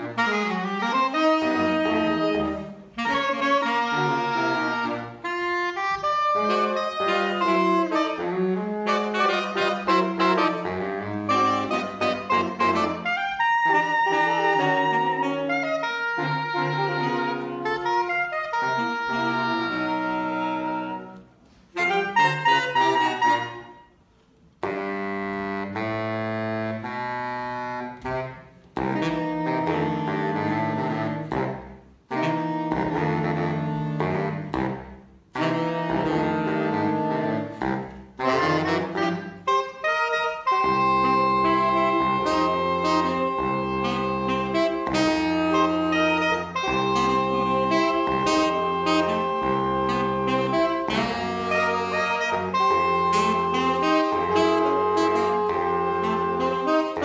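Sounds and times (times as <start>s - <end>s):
saxophone quartet playing: 0.0s - 57.0s.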